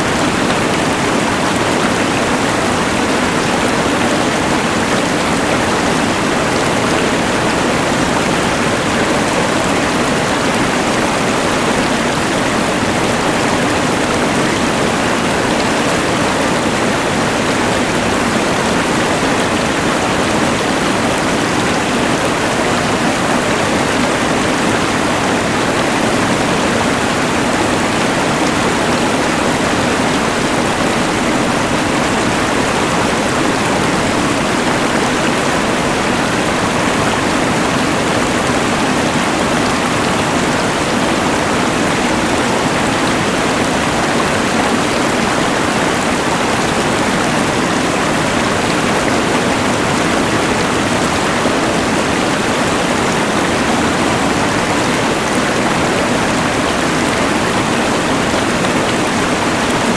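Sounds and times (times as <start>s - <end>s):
rushing mountain river: 0.0s - 59.9s.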